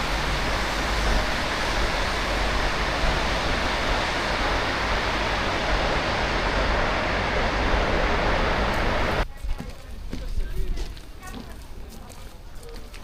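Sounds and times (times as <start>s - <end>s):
traffic echoing in tunnel: 0.0s - 11.8s.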